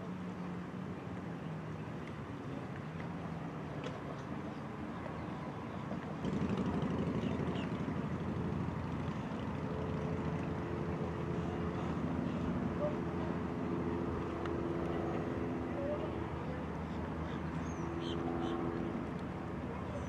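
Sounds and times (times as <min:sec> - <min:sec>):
outboard motor rumbling: 0:00.0 - 0:20.0.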